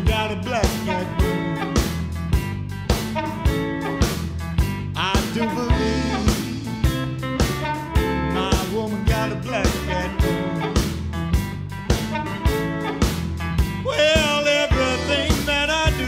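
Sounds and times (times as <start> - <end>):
electric blues band playing: 0.0 - 16.0.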